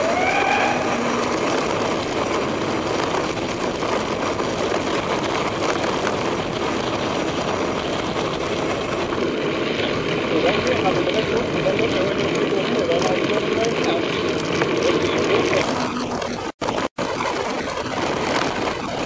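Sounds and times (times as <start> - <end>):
bike tyres rolling on rough ground: 0.0 - 19.0
small rattles and clicks: 0.0 - 19.0.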